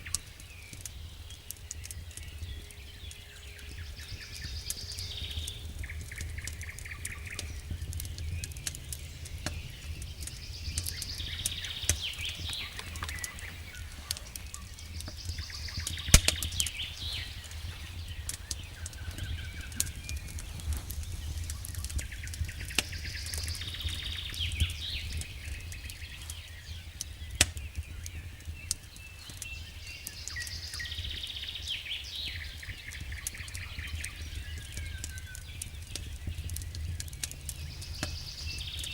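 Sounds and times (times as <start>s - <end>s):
low rumble of fire: 0.0s - 38.9s
wood fire crackling and popping: 0.0s - 38.9s.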